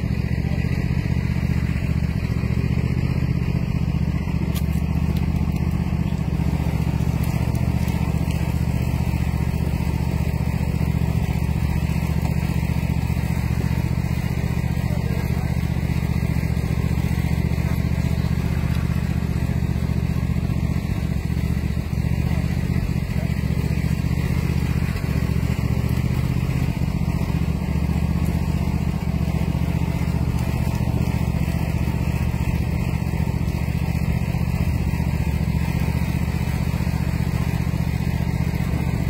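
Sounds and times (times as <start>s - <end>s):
engine droning steadily: 0.0s - 39.0s.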